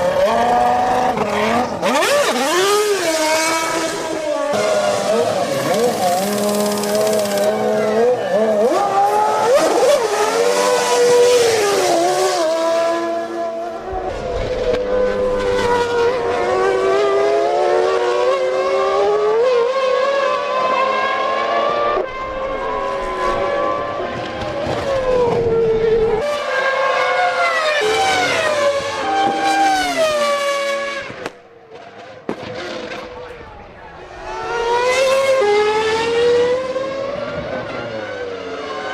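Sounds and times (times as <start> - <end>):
racing car engines at high revs: 0.0 - 38.9.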